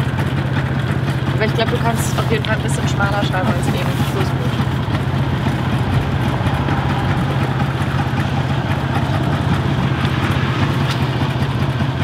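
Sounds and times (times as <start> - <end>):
engine idling with rattle: 0.0 - 12.0.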